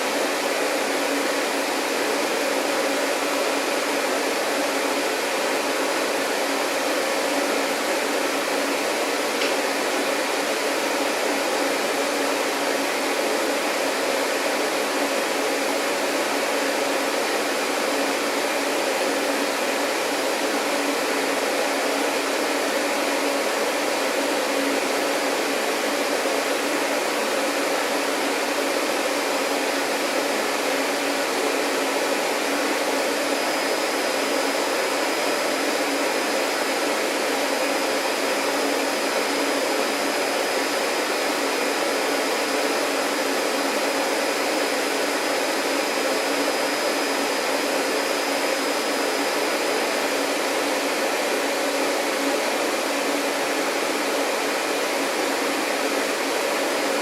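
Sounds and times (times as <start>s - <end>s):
vacuum cleaner motor running: 0.0s - 57.0s.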